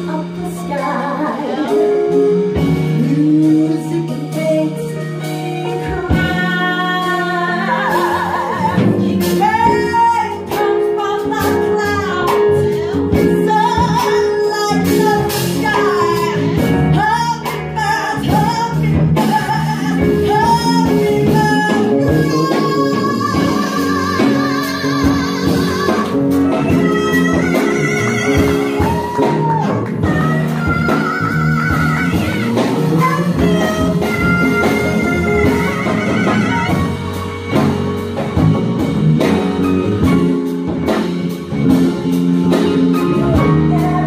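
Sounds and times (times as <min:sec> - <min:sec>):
woman singing: 0:00.0 - 0:37.4, 0:43.0 - 0:44.0
drums: 0:00.0 - 0:44.0
electric bass: 0:00.0 - 0:44.0
keyboard: 0:00.0 - 0:44.0.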